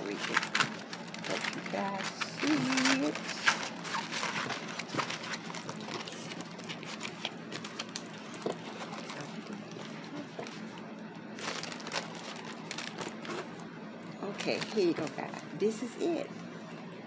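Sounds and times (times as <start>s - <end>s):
plastic sheet rustling and crinkling: 0.0s - 13.6s, 14.2s - 15.5s.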